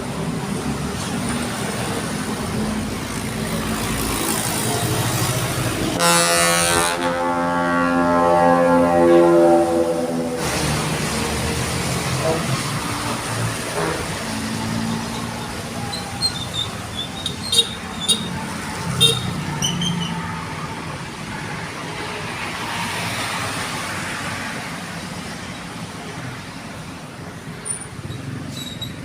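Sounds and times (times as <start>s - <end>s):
highway traffic rumble: 0.0s - 29.0s.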